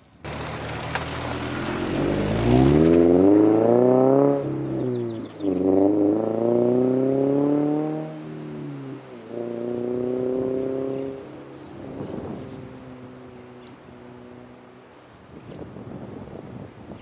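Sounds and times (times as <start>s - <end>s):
car engine accelerating hard: 0.0s - 15.1s.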